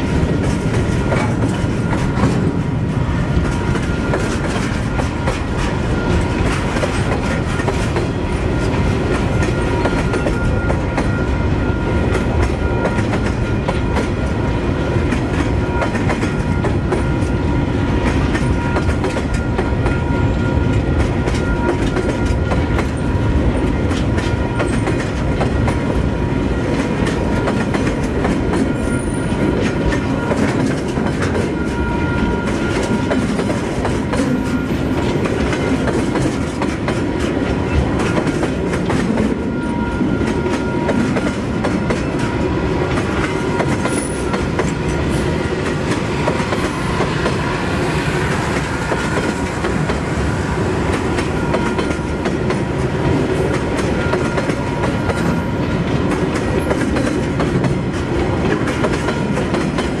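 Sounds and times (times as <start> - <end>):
train wheels clickety-clack: 0.0 - 60.0.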